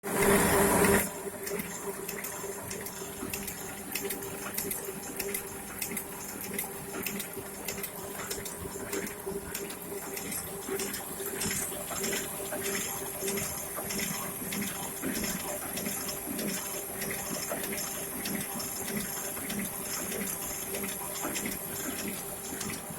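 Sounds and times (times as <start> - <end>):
printing press humming: 0.1 - 22.9.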